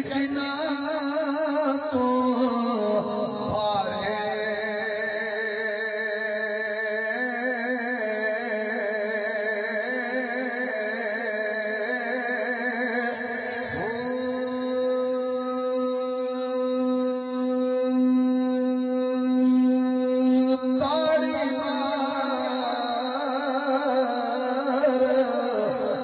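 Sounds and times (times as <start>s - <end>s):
man chanting: 0.0s - 26.0s.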